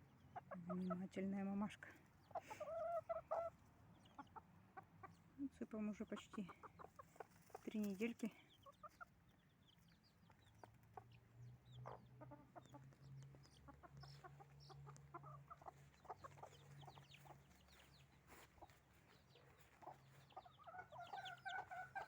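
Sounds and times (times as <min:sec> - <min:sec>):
chicks peeping: 0:00.0 - 0:22.0
hens clucking: 0:00.1 - 0:22.0.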